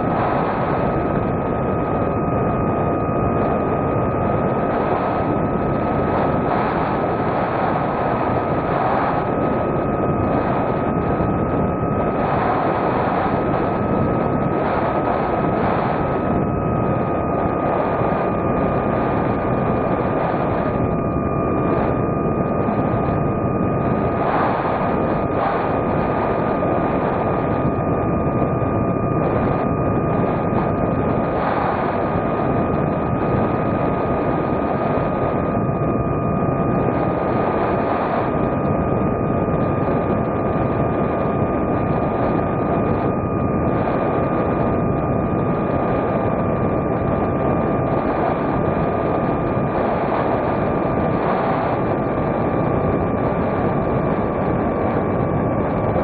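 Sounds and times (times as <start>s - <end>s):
electric motor and propeller whining: 0.0s - 56.0s
wind noise: 0.0s - 56.0s.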